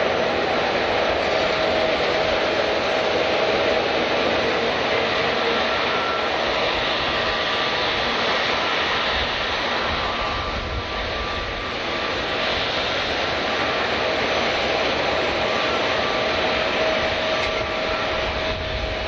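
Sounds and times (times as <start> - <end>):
jet engines rushing with whine: 0.0 - 19.0.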